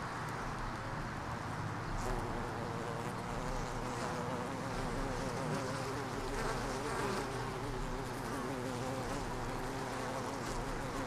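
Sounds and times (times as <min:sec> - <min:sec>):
honey bees buzzing: 0:02.0 - 0:11.0.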